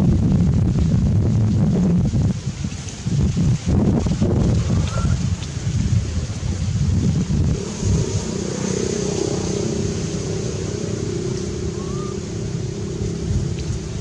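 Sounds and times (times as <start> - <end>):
engine hum: 0.0 - 14.0
wind buffeting microphone: 0.0 - 14.0.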